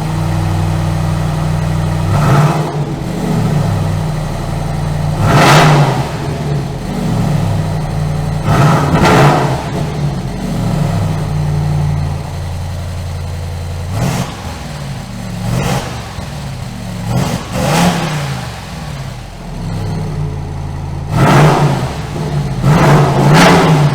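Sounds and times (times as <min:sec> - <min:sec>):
truck engine idling and revving: 0:00.0 - 0:23.9.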